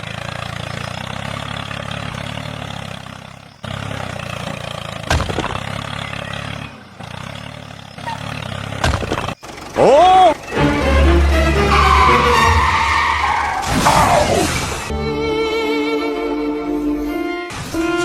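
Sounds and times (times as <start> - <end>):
engine rumbling buzz: 0.0 - 18.0.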